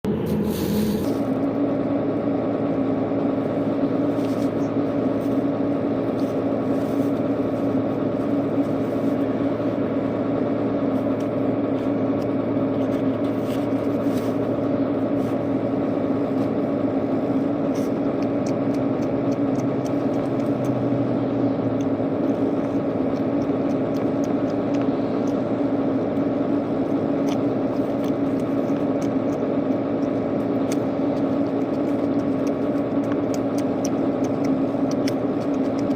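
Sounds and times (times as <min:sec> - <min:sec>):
machine hum: 0:00.0 - 0:35.9.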